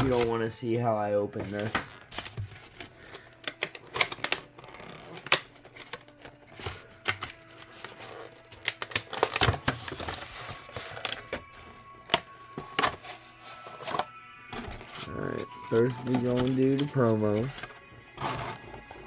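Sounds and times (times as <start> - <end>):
packaging clicks and taps: 0.0 - 0.4, 1.4 - 19.0
scratchy rustling of packaging: 0.0 - 0.6, 1.4 - 19.0.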